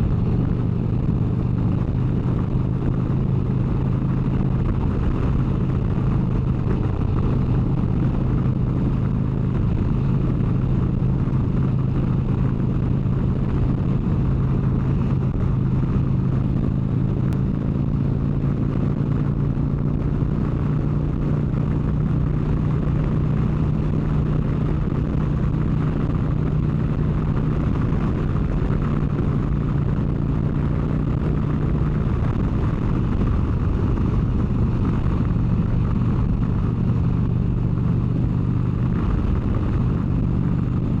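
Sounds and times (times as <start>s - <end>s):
motorcycle engine cruising: 0.0s - 41.0s
wind and road noise: 0.0s - 41.0s.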